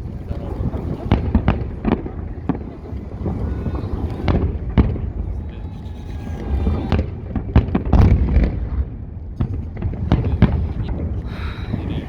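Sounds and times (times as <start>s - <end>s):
fireworks bangs and booms: 0.0s - 12.0s
low rumble: 0.0s - 12.0s.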